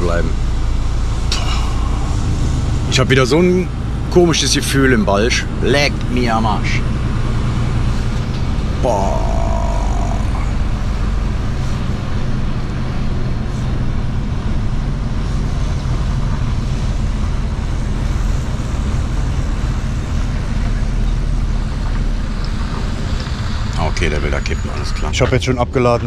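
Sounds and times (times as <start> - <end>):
diesel truck engine humming: 0.0 - 26.0
road noise: 0.0 - 26.0.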